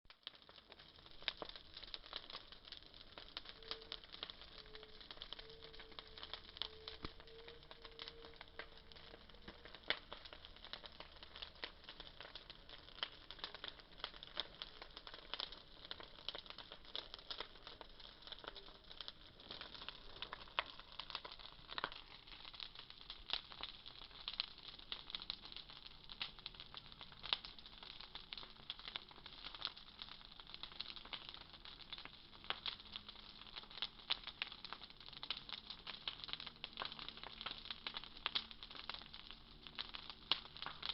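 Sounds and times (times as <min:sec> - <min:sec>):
bonfire crackling: 0:00.1 - 0:40.9.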